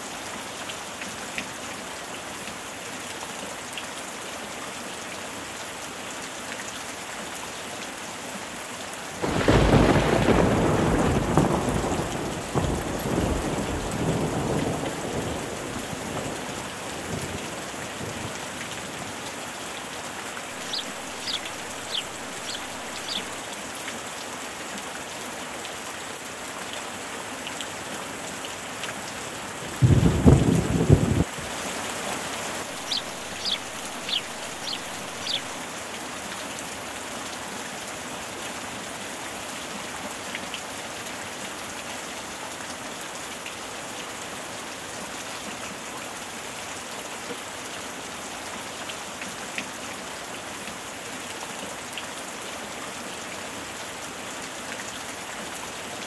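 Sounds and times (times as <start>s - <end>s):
rain on pool water: 0.0s - 56.0s.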